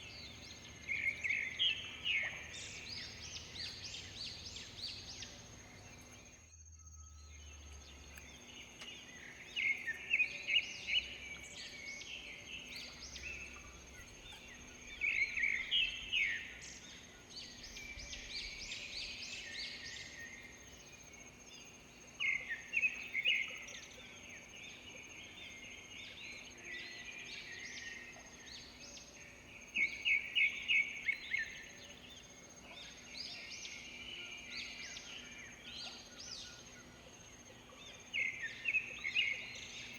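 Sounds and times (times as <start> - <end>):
soft background bird calls: 0.0 - 39.9.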